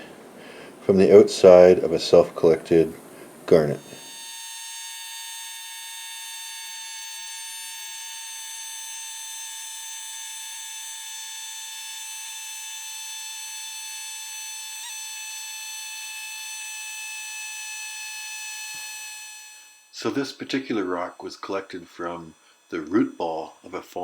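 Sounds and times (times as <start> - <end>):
air scribe buzzing against rock: 0.0 - 24.0.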